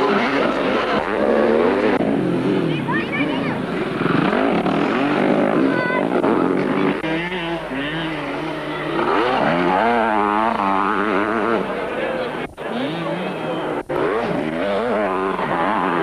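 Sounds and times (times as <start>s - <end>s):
motocross motorcycles revving: 0.0s - 16.0s.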